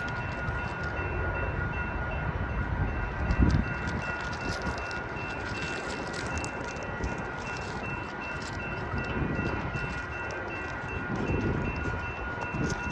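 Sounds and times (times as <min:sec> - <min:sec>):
steady high tones: 0:00.0 - 0:12.9
train wheels rumbling on rail: 0:00.0 - 0:12.9.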